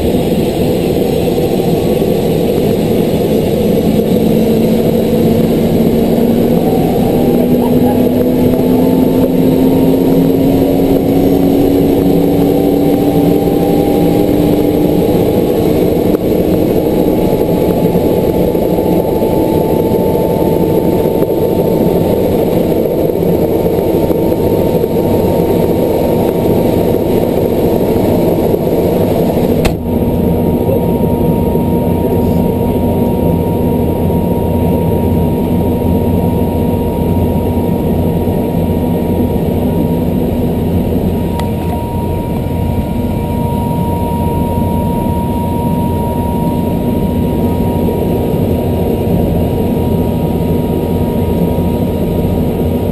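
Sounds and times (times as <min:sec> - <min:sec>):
helicopter engine and rotor: 0:00.0 - 0:52.9.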